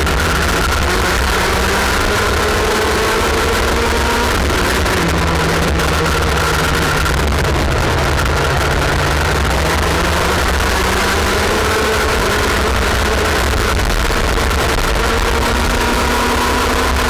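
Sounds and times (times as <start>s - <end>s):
low rumble: 0.0s - 15.4s
kart engine: 0.0s - 17.0s.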